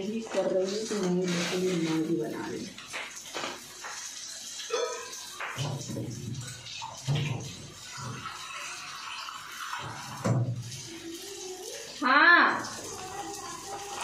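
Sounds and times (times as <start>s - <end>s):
water running into a vessel: 0.0s - 14.0s.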